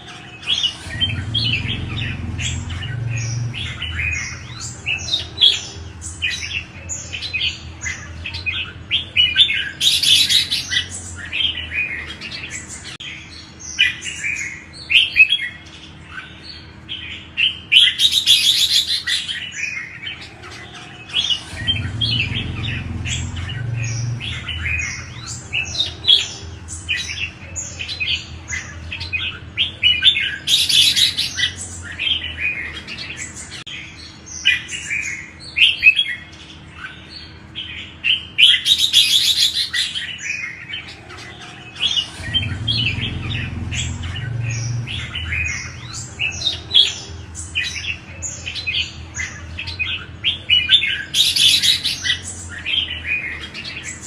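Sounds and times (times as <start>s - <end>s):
bulbuls singing: 0.0s - 54.0s.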